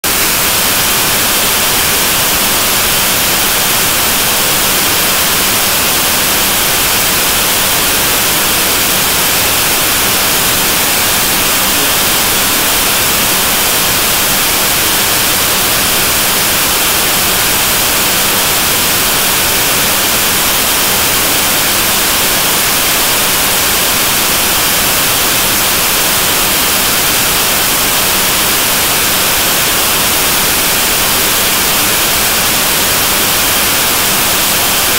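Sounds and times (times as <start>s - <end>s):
loud static hiss: 0.0s - 34.9s.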